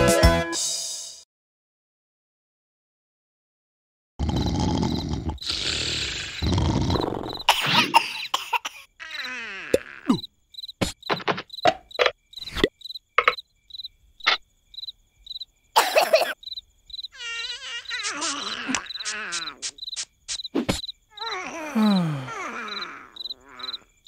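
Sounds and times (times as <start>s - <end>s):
crickets chirping: 4.2s - 24.0s.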